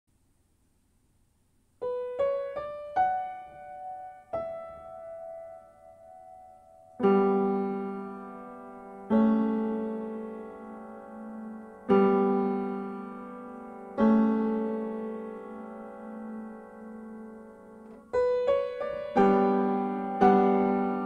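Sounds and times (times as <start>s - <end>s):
solo piano music: 1.7s - 21.0s.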